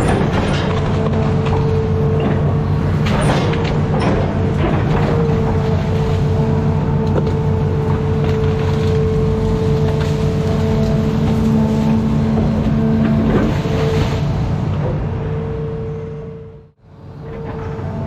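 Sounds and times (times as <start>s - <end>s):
excavator diesel engine under load: 0.0s - 18.0s.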